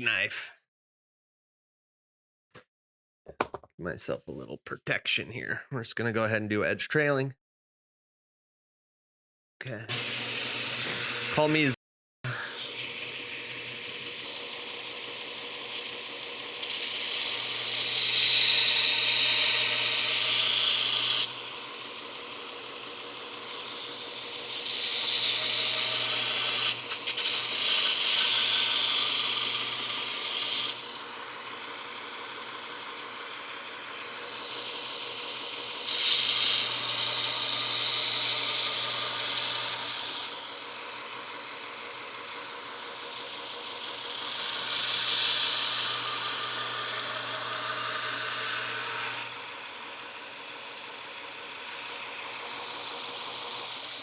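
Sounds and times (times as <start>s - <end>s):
belt grinder motor running: 9.9s - 54.0s.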